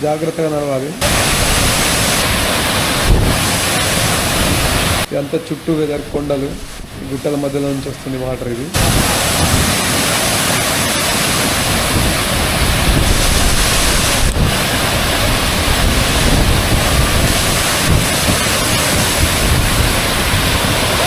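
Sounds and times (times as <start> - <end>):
waterfall roaring: 0.0 - 21.0
wind buffeting microphone: 0.9 - 21.0.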